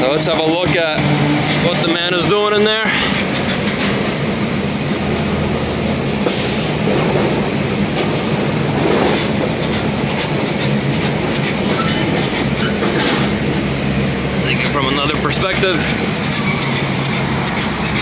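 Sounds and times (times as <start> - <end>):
machine humming: 0.0 - 18.0
foam spray gun hissing: 1.9 - 18.0.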